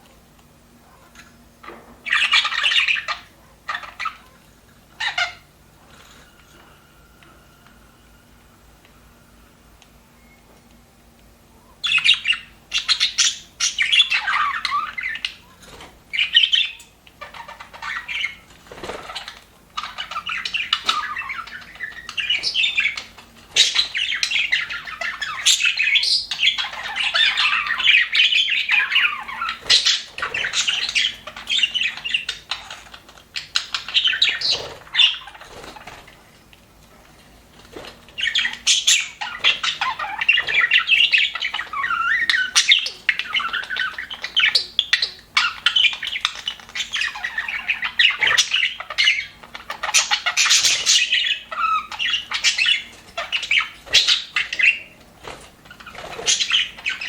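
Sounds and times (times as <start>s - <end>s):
budgerigars chattering: 1.6s - 5.5s, 11.8s - 15.5s, 16.1s - 36.1s, 38.2s - 55.0s, 55.6s - 57.0s.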